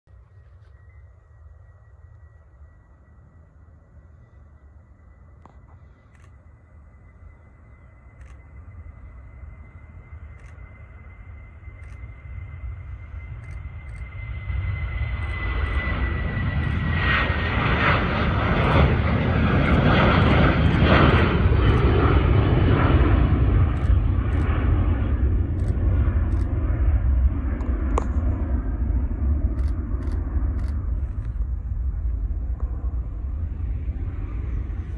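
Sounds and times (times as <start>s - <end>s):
high engine whine: 0.1s - 34.9s
jet engines at takeoff: 0.1s - 34.9s.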